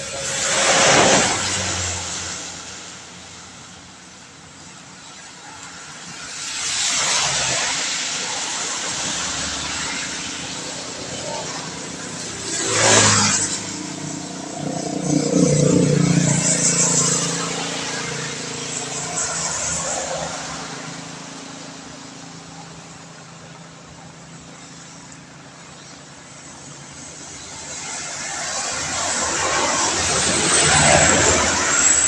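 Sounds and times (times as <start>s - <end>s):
engine hum: 0.0s - 32.0s
tyres hissing on wet road: 0.0s - 32.0s.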